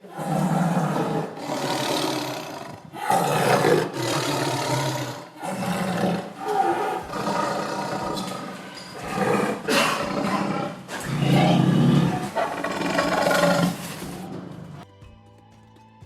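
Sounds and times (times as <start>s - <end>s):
tiger roaring and growling: 0.0s - 14.8s.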